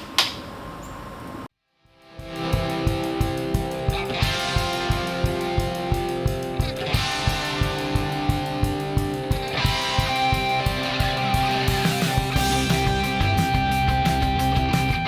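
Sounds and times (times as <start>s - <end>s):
rock music with electric guitar: 2.0s - 15.0s
steady drum beat: 2.4s - 15.0s.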